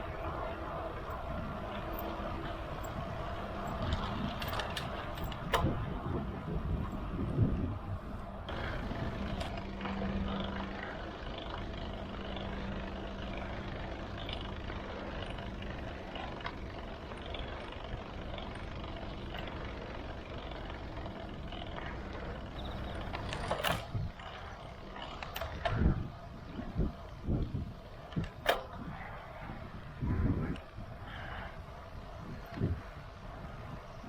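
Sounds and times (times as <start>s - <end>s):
low steady hum: 0.0s - 34.0s
wind and bike rolling noise: 0.0s - 34.0s.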